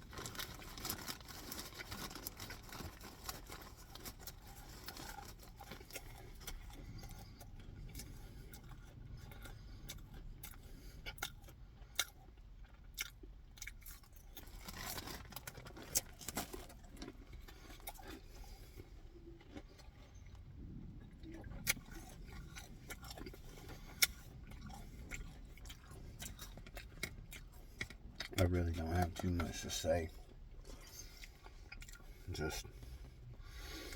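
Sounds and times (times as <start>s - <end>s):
person chewing food: 0.0s - 33.9s.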